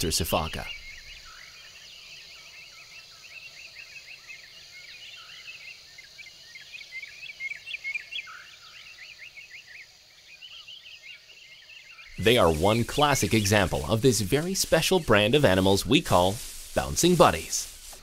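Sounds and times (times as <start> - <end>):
insect hiss: 0.0 - 18.0
small birds chirping: 0.0 - 18.0.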